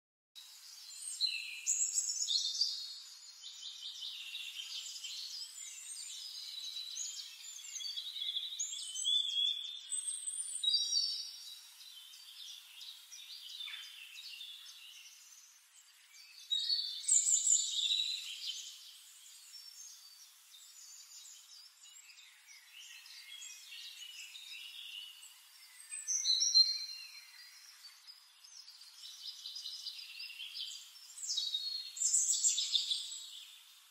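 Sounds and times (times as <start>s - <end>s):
songbirds singing and chirping: 0.4s - 33.9s.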